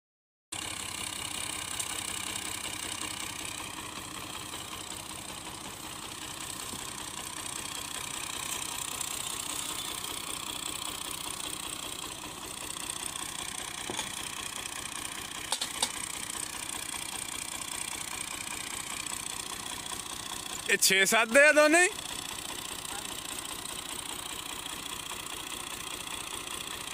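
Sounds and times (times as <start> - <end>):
tractor engine running: 0.6 - 26.9.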